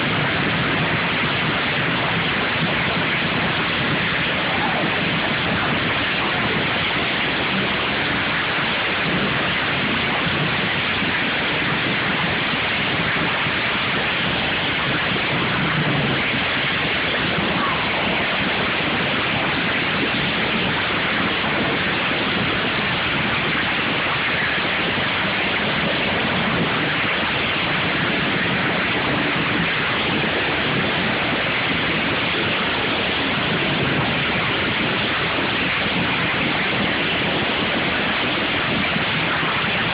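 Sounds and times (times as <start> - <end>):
lawn mower engines roaring: 0.0 - 39.9.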